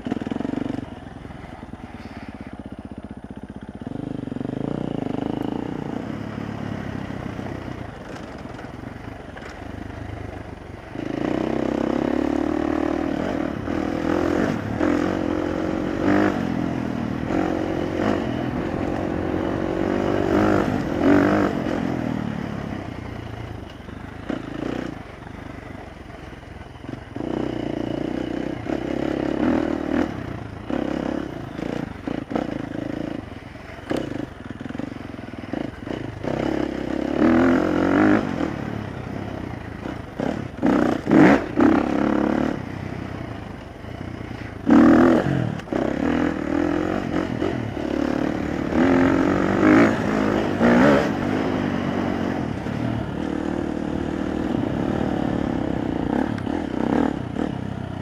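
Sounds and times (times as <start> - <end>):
dirt bike engine revving: 3.8 - 9.6, 10.9 - 25.4, 26.8 - 58.0.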